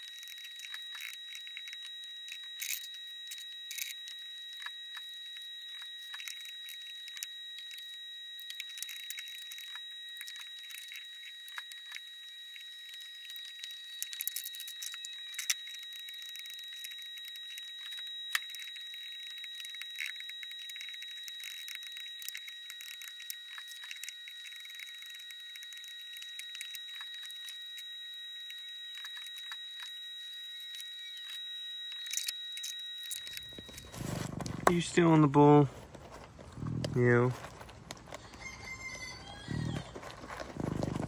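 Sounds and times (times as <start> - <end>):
steady high whine: 0.0 - 41.0.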